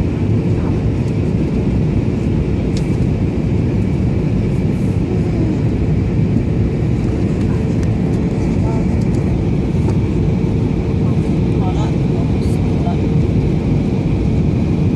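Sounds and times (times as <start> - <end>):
aircraft cabin engine rush: 0.0 - 14.9.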